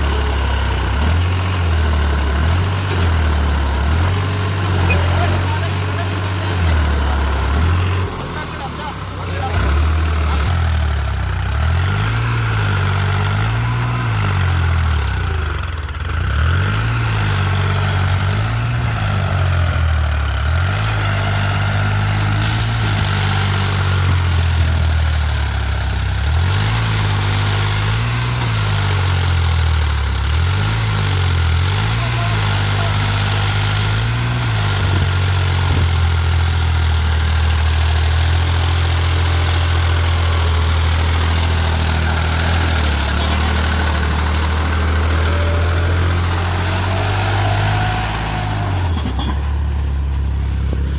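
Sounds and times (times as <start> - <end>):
tractor engine revving: 0.0 - 50.9.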